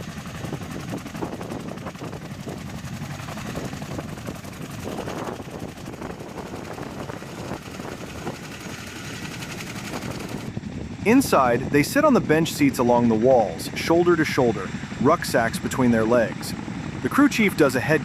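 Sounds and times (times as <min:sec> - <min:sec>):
engine and rotor-wash rush: 0:00.0 - 0:18.0
helicopter rotors chopping: 0:00.0 - 0:18.0.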